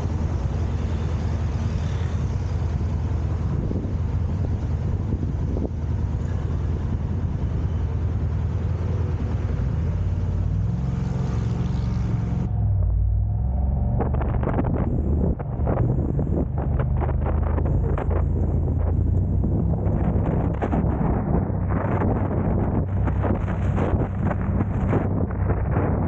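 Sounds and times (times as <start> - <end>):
car road noise: 0.0 - 26.0
wind buffeting microphone: 0.0 - 26.0.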